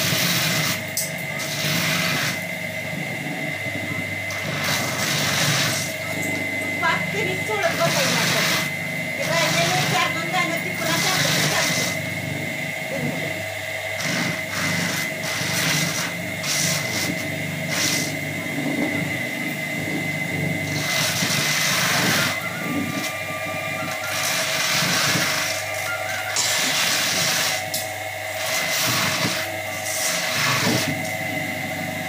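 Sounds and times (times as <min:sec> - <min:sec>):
electric motor whine and hum: 0:00.0 - 0:32.0.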